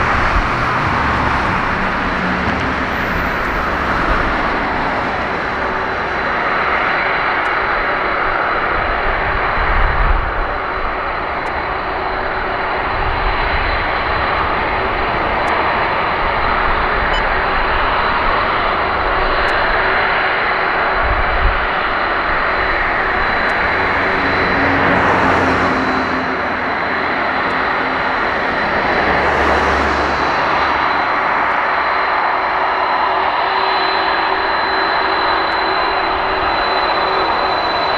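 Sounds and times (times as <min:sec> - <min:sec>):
high engine whine: 0:00.0 - 0:37.9
jet engines running: 0:00.0 - 0:37.9.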